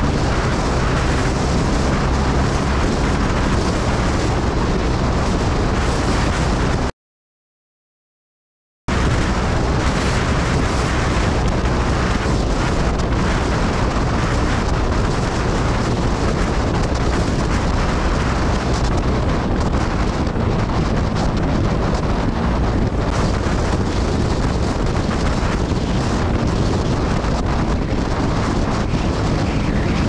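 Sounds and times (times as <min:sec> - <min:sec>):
wind rushing over microphone: 0:00.0 - 0:06.9, 0:08.9 - 0:30.0.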